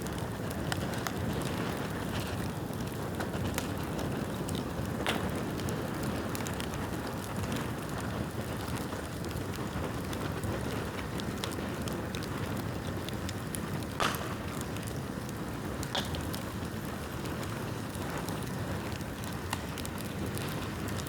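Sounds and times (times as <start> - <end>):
bonfire crackling and snapping: 0.0 - 21.0.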